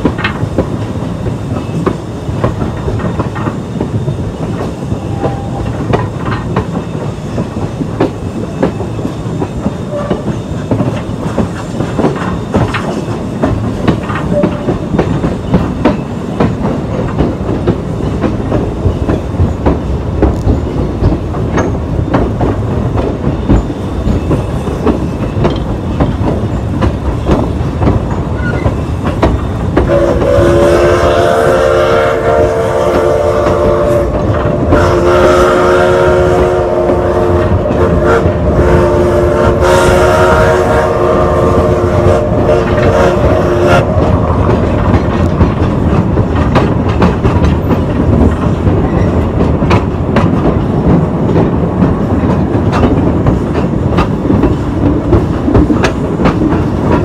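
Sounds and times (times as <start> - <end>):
train cars rumbling: 0.0 - 57.0
wheels clacking on track: 0.0 - 57.0.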